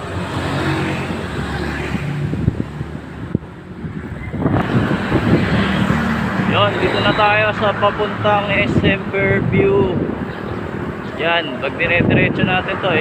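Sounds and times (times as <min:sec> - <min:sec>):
road traffic engines: 0:00.0 - 0:13.0
wind buffeting microphone: 0:00.0 - 0:13.0.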